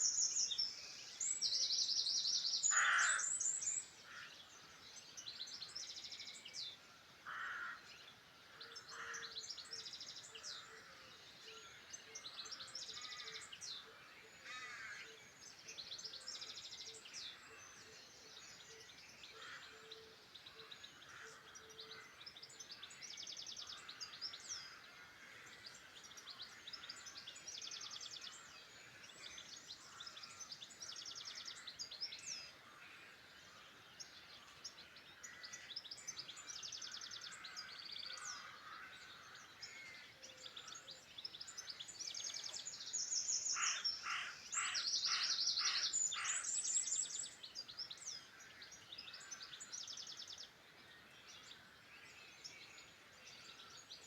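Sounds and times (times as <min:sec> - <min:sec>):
songbirds singing: 0:00.0 - 0:54.0
steady outdoor hiss: 0:00.0 - 0:54.0.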